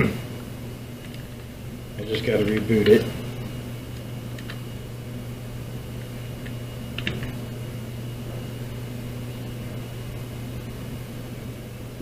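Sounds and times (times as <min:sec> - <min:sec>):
computer fans humming: 0:00.0 - 0:12.0.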